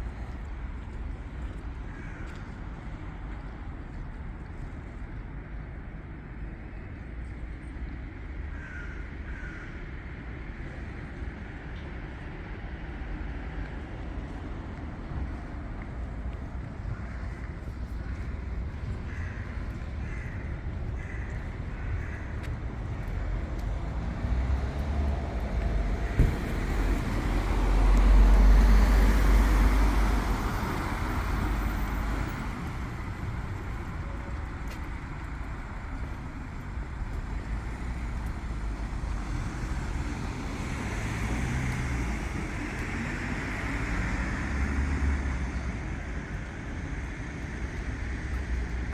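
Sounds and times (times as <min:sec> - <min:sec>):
hum of road traffic: 0:00.0 - 0:48.9.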